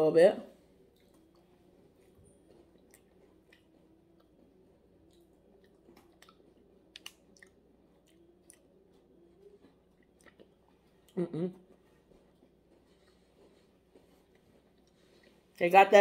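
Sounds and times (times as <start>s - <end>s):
faint hum: 0.0s - 16.0s
person chewing cookie: 0.6s - 15.6s.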